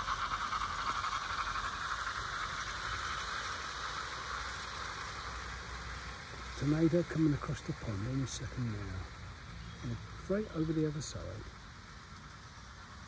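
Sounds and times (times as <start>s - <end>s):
model train whirring on track: 0.0s - 13.0s.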